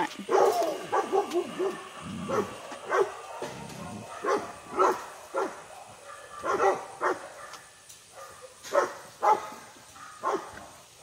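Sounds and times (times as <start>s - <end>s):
dog barking: 0.3s - 10.7s.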